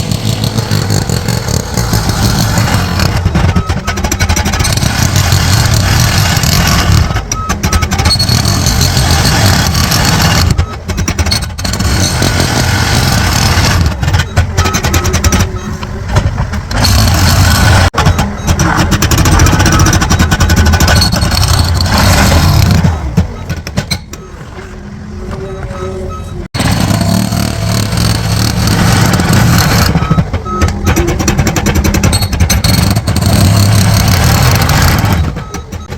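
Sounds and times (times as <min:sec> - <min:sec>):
construction machinery engine running: 0:00.0 - 0:35.9.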